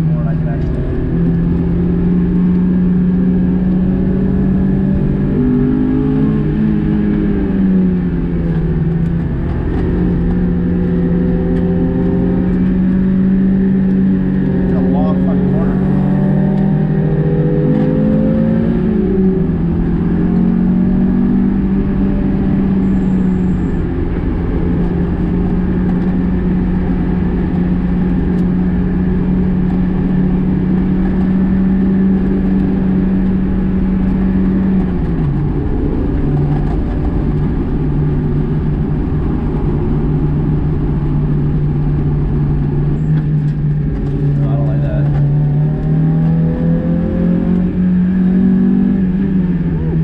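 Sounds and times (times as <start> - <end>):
car engine from inside cabin: 0.0 - 50.0
road and tyre noise: 0.0 - 50.0.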